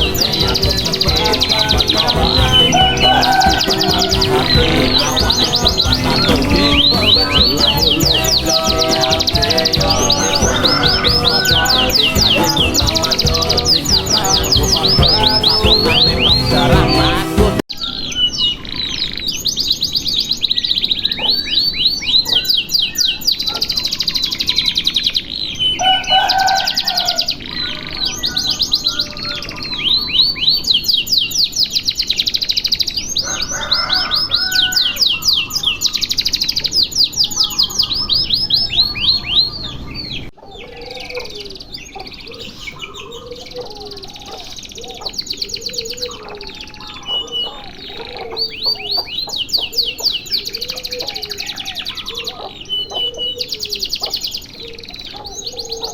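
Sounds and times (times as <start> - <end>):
canary singing trills: 0.0 - 55.9.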